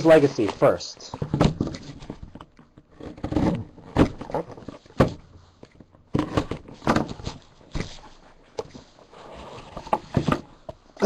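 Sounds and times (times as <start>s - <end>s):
box and packaging being opened: 0.0s - 10.6s.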